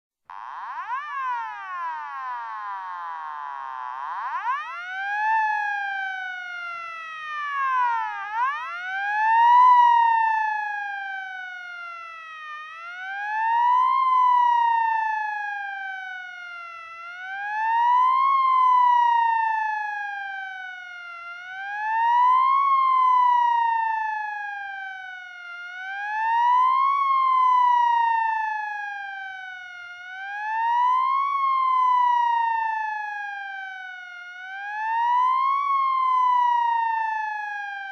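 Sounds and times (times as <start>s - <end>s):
emergency vehicle siren wailing: 0.3s - 37.9s.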